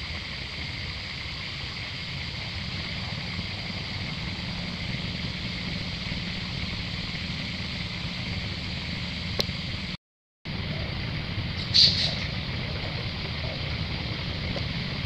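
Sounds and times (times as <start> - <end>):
high hiss: 0.0 - 15.0
low rumble: 0.0 - 15.0.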